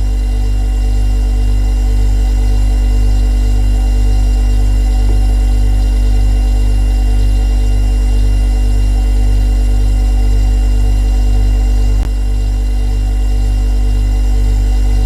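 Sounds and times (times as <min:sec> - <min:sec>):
refrigerator compressor humming: 0:00.0 - 0:15.0.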